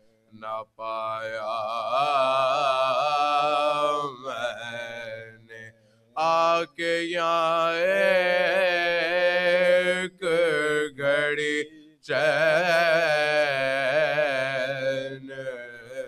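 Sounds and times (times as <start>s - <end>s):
man chanting unaccompanied: 0.4s - 16.0s.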